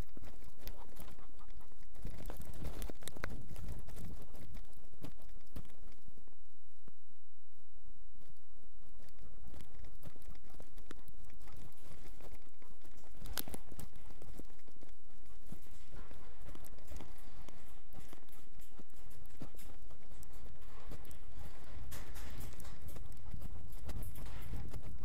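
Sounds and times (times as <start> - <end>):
constant low rumble: 0.0 - 25.0.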